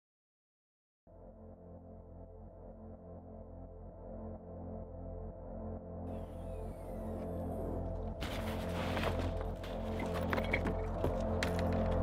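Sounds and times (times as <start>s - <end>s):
ambient electronic music: 1.1s - 12.0s.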